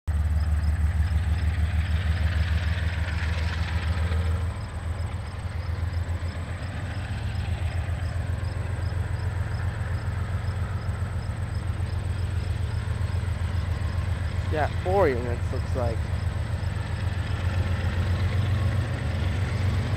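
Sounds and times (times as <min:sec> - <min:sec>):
diesel locomotives revving: 0:00.1 - 0:19.9.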